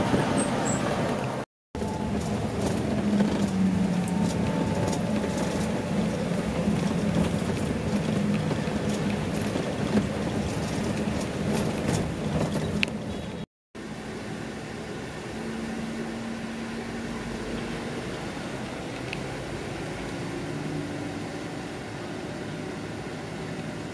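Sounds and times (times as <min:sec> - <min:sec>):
bus engine drone: 0:00.0 - 0:23.9
road noise: 0:00.0 - 0:23.9.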